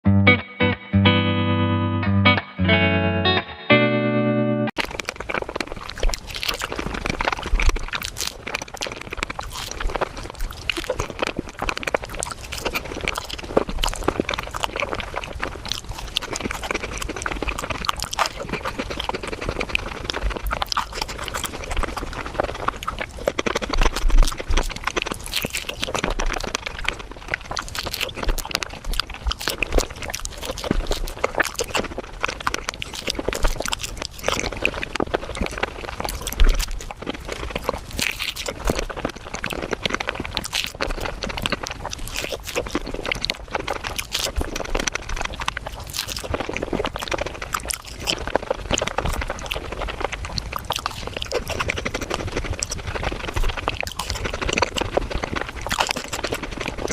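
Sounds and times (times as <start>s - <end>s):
sped-up wet chewing: 4.8s - 56.9s.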